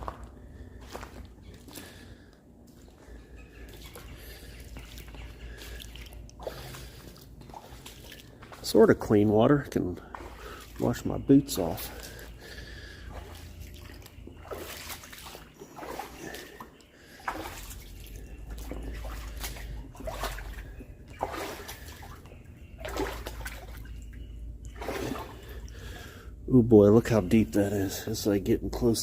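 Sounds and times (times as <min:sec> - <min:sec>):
boots splashing in water: 0:00.8 - 0:26.2.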